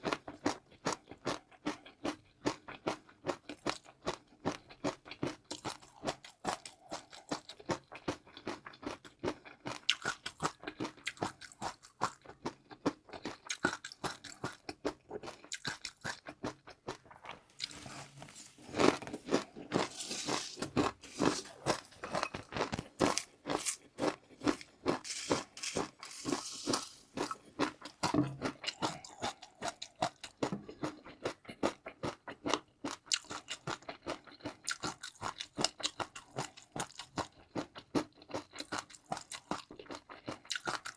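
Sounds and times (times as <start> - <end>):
crunching and chewing food: 0.0 - 40.9.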